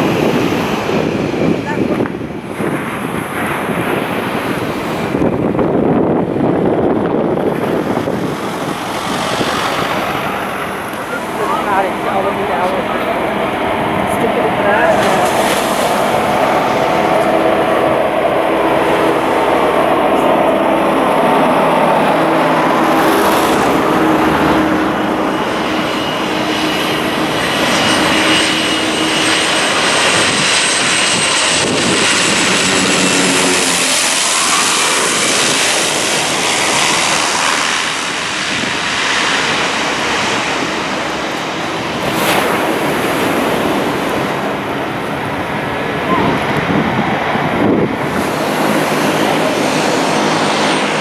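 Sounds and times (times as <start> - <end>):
turboprop plane flying low: 0.0 - 51.0.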